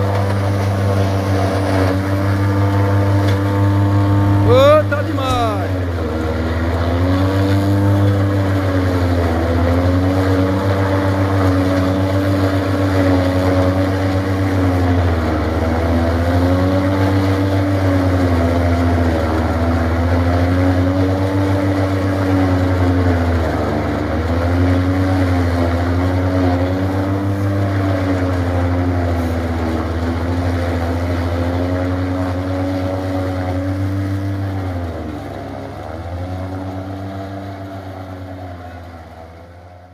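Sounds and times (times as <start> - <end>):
forage chopper shredding corn stalks: 0.0 - 39.9.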